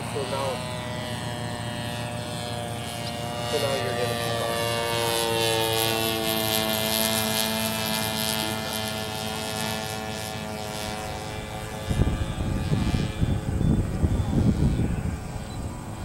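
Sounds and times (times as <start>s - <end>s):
model plane propeller drone: 0.0s - 16.0s.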